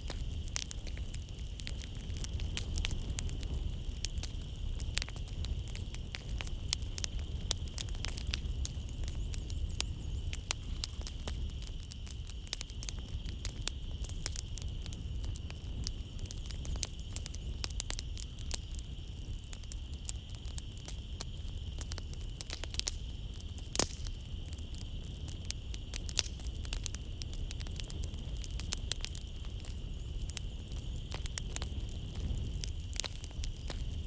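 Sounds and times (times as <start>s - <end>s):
night insects chirring: 0.0s - 34.0s
wood fire crackling: 0.0s - 34.0s.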